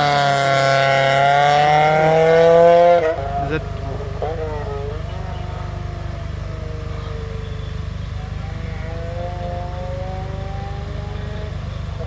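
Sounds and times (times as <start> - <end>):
car engines idling: 0.0 - 12.0
higher engine note: 0.0 - 12.0.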